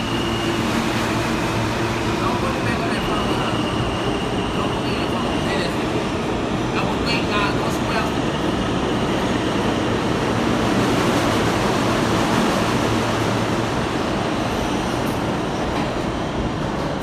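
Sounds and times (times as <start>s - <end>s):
subway train wheels on rails: 0.0s - 17.0s.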